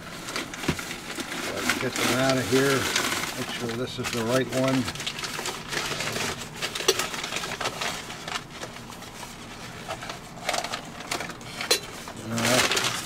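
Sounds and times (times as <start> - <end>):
packing paper crinkling: 0.0 - 13.0.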